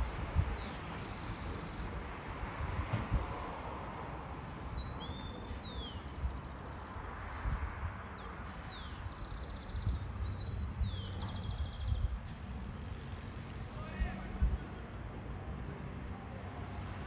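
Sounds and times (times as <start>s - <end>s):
wind rumble on microphone: 0.0s - 1.0s, 1.6s - 4.1s, 4.7s - 12.8s, 13.6s - 15.9s.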